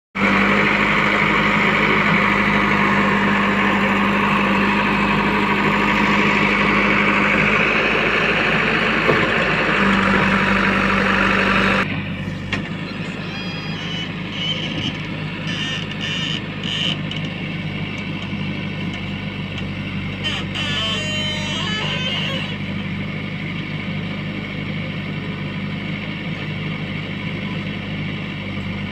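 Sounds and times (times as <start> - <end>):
diesel engine running under load: 0.2 - 28.9.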